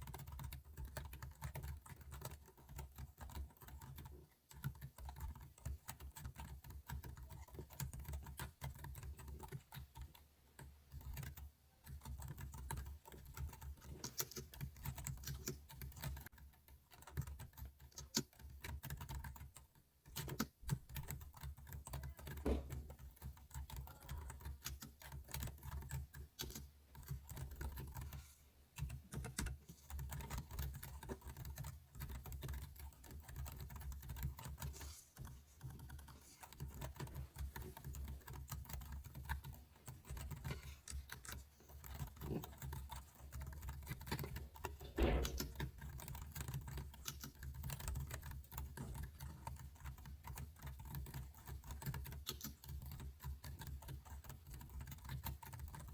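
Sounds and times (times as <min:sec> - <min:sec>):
keyboard typing: 0:00.0 - 0:55.9.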